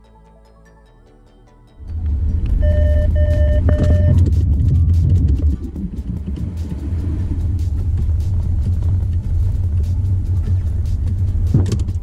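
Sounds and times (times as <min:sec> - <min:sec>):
wind: 0:01.8 - 0:12.0.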